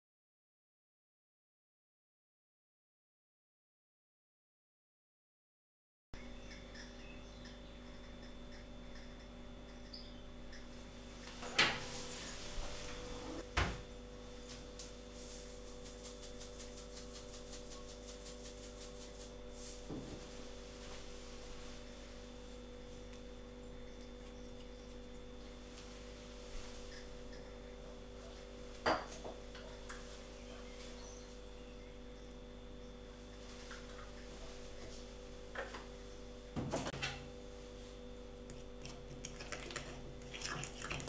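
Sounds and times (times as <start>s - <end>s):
electrical hum: 6.2s - 41.0s.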